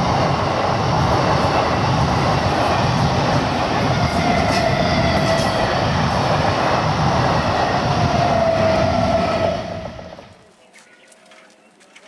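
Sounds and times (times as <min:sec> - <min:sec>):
train wheels rumbling on rails: 0:00.0 - 0:10.4.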